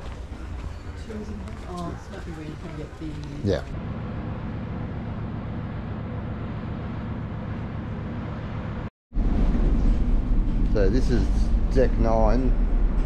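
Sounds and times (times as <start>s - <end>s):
ship machinery humming: 0.0s - 13.0s
deep rumble: 0.2s - 13.0s.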